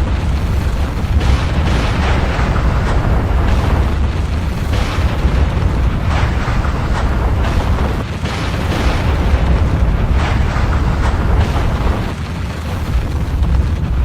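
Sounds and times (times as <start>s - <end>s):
volcanic blasts: 0.0s - 14.0s
volcanic eruption rumble: 0.0s - 14.0s.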